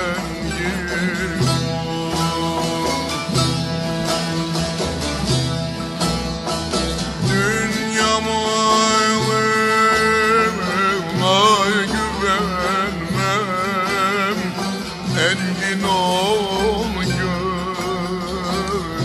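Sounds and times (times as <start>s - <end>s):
person singing with ornaments: 0.0s - 4.8s, 7.2s - 19.0s
plucked string accompaniment: 0.0s - 19.0s.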